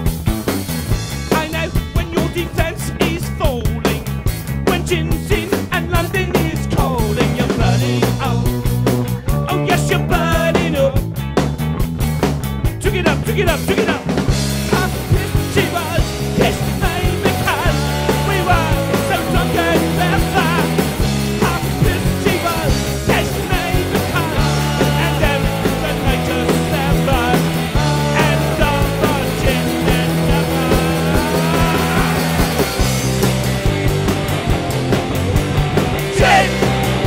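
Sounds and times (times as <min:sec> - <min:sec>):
loud rock band music: 0:00.0 - 0:37.0.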